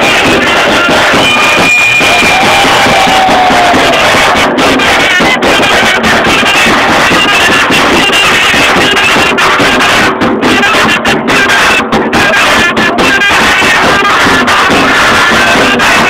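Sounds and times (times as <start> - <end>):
bass drum and zurna dance tune: 0.0 - 16.0.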